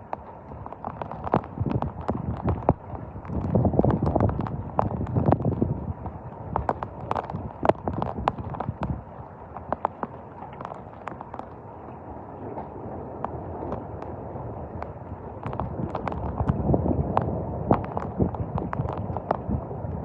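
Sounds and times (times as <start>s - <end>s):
steady rain: 0.0s - 20.0s
wind gusts buffeting microphone: 0.0s - 20.0s.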